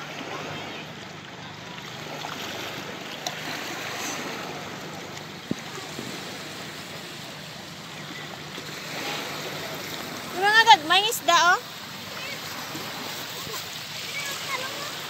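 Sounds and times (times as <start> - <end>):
waves lapping on rocks: 0.0 - 15.0.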